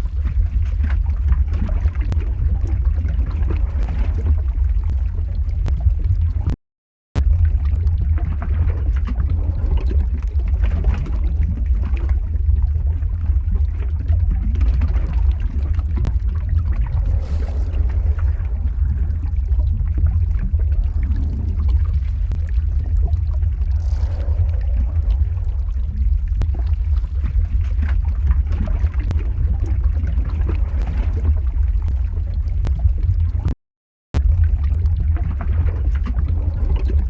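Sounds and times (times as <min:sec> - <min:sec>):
crackles and pops: 0:00.0 - 0:06.6, 0:07.2 - 0:33.6, 0:34.2 - 0:37.0
deep rumble: 0:00.0 - 0:06.6, 0:07.2 - 0:33.6, 0:34.2 - 0:37.0.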